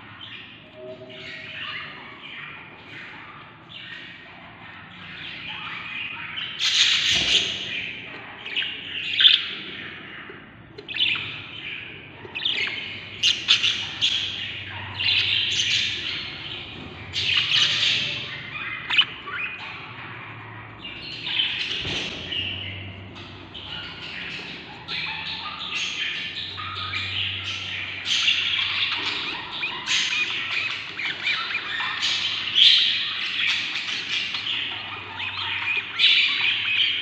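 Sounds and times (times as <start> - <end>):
bird chicks begging chirps: 0.0 - 37.0.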